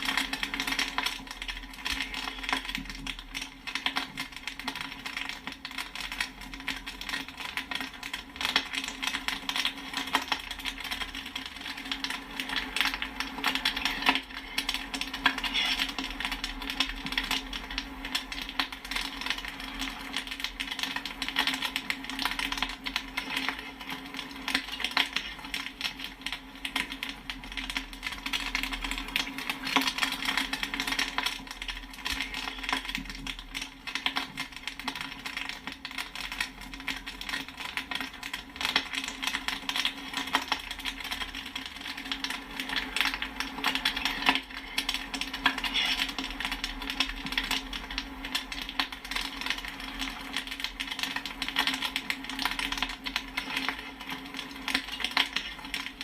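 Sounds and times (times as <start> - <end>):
popcorn kernels popping: 0.0 - 56.0.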